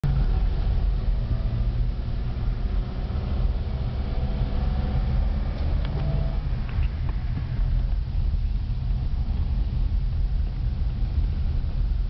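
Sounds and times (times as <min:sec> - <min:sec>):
car driving on dirt road: 0:00.0 - 0:12.0.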